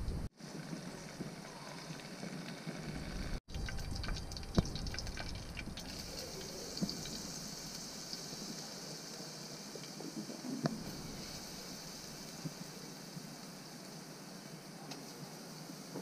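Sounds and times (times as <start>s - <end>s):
hot oil sizzling and crackling: 0.0s - 16.0s.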